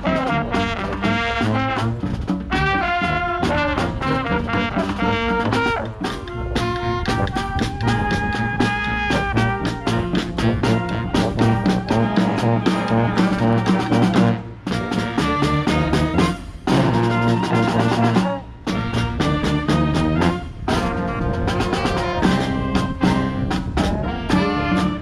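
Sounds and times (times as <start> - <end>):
brass instruments playing: 0.0 - 25.0
marching snare drum: 0.0 - 25.0.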